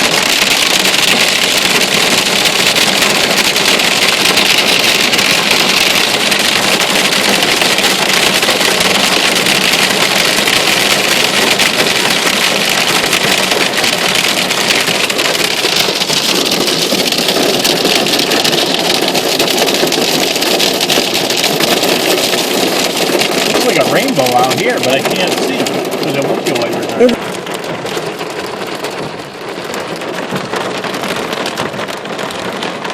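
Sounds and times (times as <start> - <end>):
hail and rain pelting down: 0.0 - 32.9.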